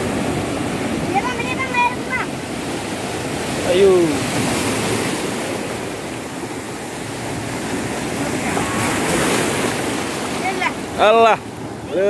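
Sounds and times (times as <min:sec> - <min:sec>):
sea waves rushing: 0:00.0 - 0:12.0.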